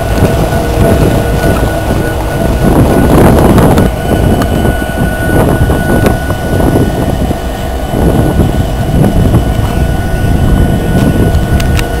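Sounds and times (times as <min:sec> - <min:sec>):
high steady whine: 0:00.0 - 0:12.0
locomotive engine rumble: 0:00.0 - 0:12.0.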